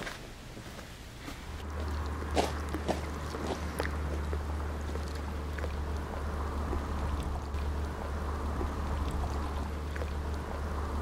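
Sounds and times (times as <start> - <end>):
low rumble: 1.6 - 11.0.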